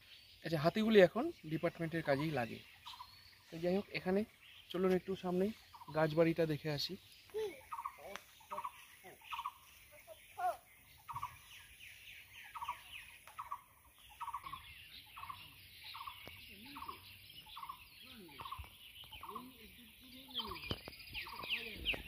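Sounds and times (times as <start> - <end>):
birds chirping and twittering: 0.0 - 22.0
lower bird calls: 0.0 - 22.0.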